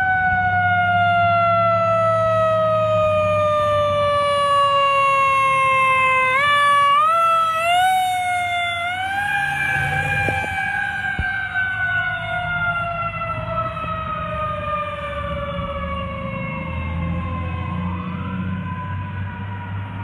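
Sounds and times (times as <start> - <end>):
fire truck siren wailing: 0.0 - 20.0.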